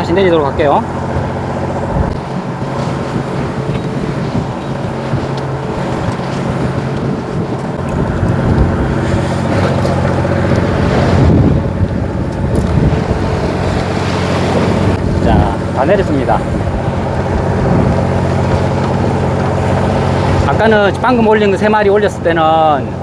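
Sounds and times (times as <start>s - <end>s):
boat engine humming: 0.0s - 23.0s
wind noise on microphone: 0.0s - 23.0s.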